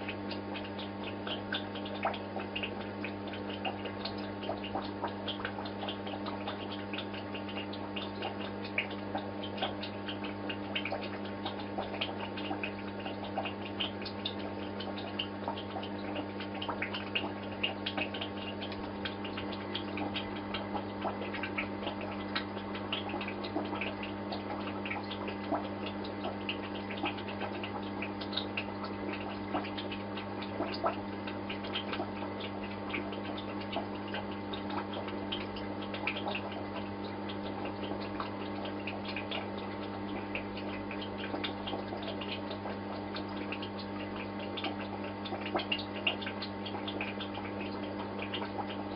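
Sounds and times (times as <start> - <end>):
aquarium pump humming: 0.0 - 48.9
water bubbling and trickling: 0.0 - 48.9.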